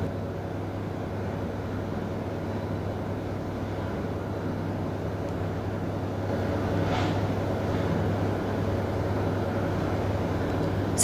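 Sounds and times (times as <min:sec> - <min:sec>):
low rumbling hum with noisy wash: 0:00.0 - 0:11.0.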